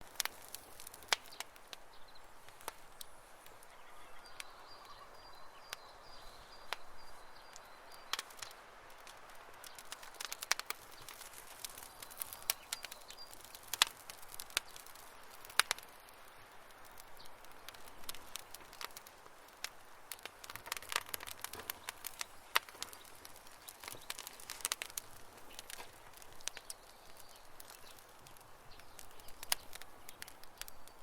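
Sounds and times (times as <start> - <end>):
campfire wood crackling: 0.0 - 31.0.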